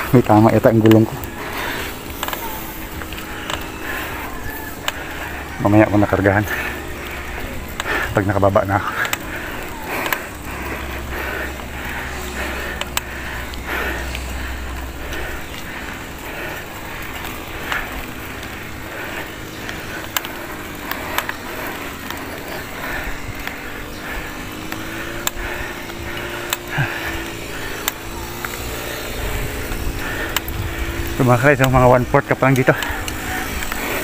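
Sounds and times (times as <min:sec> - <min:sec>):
bike clicks and rattles: 0:00.0 - 0:34.0
bike tyres rolling on concrete: 0:00.0 - 0:34.0.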